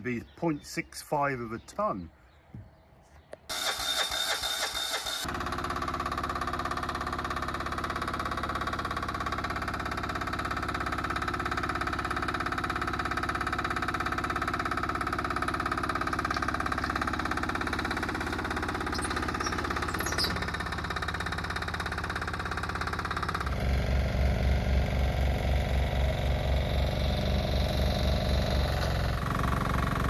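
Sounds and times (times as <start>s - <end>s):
small engine pulsing throb: 3.5s - 30.0s.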